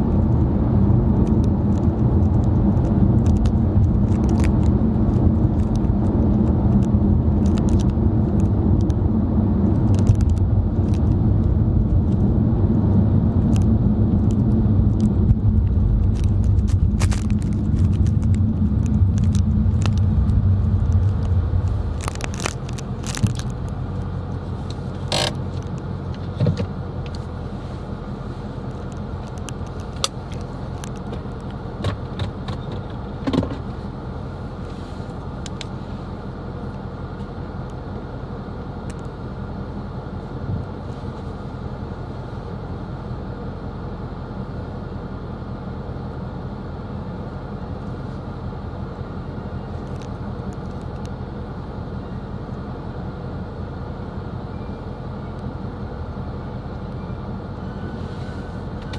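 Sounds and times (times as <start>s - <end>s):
engine and road rumble: 0.0s - 58.9s.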